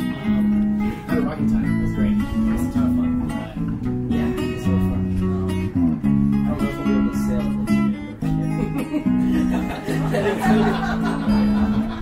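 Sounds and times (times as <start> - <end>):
low bass notes: 0.0 - 12.0
strummed and plucked guitar: 0.0 - 12.0.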